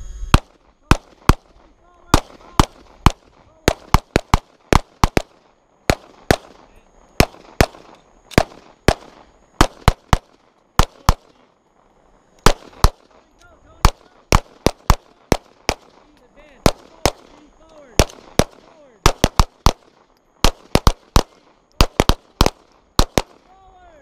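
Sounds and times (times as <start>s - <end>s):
pistol gunshots: 0.3s - 11.5s, 12.4s - 13.2s, 13.8s - 23.6s.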